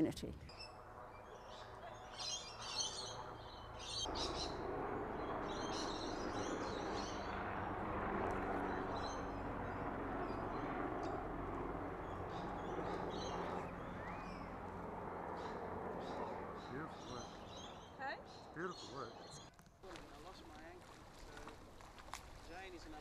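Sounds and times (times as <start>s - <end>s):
birds chirping: 0.4s - 19.5s.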